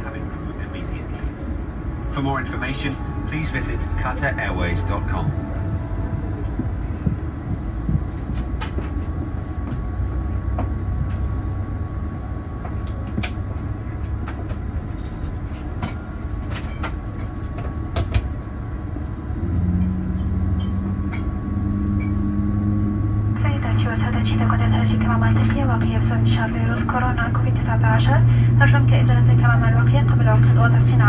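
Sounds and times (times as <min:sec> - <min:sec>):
aircraft engine rumble: 0:00.0 - 0:31.0
steady low hum: 0:00.0 - 0:31.0.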